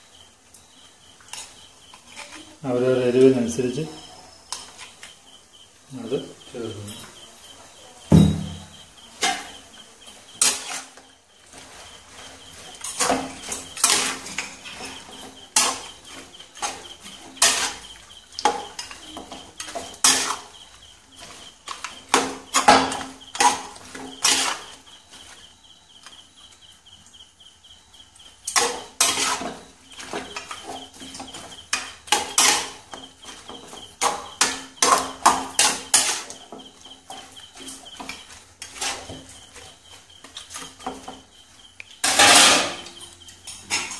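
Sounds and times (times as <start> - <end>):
spoon scraping a frying pan: 1.2 - 2.6, 3.2 - 5.2, 8.2 - 25.4, 28.4 - 43.9.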